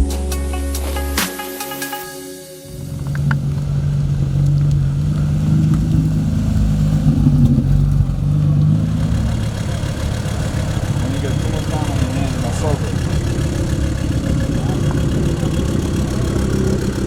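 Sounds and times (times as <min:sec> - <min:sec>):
car engine idling: 0:02.7 - 0:17.0.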